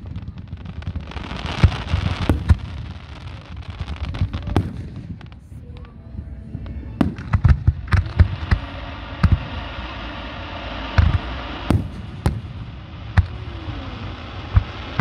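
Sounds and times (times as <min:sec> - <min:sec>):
fireworks bursting: 0:00.0 - 0:15.0
steady hiss: 0:00.0 - 0:15.0.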